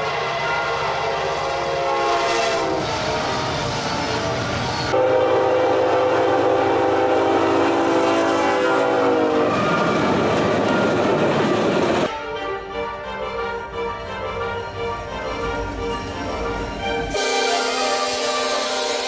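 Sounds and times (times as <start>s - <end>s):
locomotive air horn: 0.0s - 10.9s, 12.1s - 19.0s
passing train noise: 0.0s - 19.0s.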